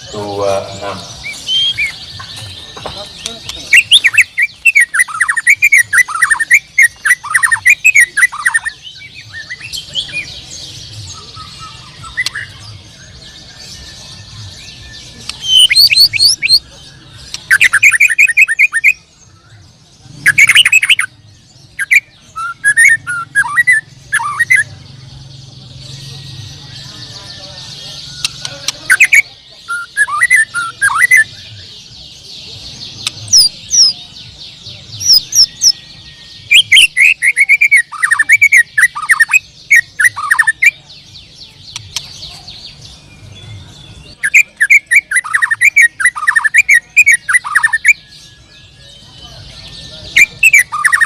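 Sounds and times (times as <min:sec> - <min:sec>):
songbird singing: 0:00.0 - 0:51.0.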